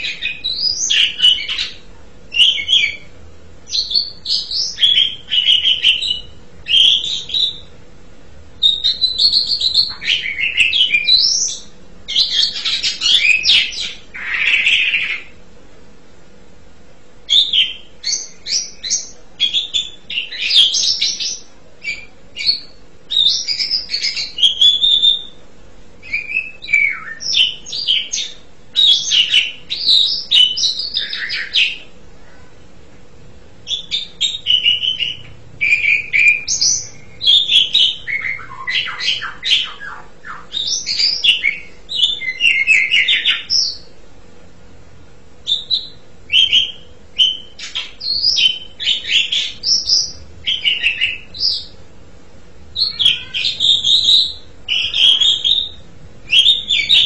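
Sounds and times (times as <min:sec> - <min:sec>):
starling singing: 0:00.0 - 0:07.8, 0:08.6 - 0:15.4, 0:17.3 - 0:25.4, 0:26.0 - 0:32.0, 0:33.6 - 0:44.0, 0:45.4 - 0:51.8, 0:52.7 - 0:57.0.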